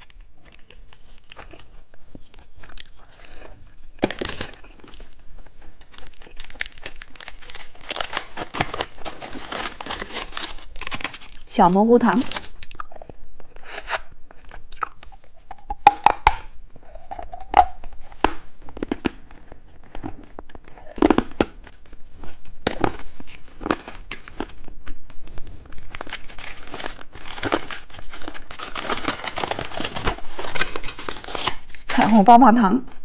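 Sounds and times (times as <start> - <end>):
plastic wrapping crinkling: 0.0 - 12.8, 15.3 - 32.2.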